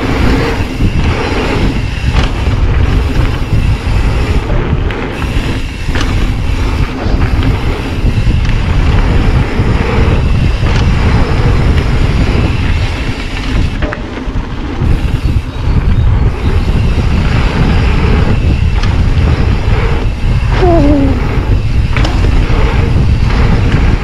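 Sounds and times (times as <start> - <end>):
bike rattling: 0.0 - 24.0
bike tyres rumbling on dirt: 0.0 - 24.0
wind buffeting microphone: 0.0 - 24.0.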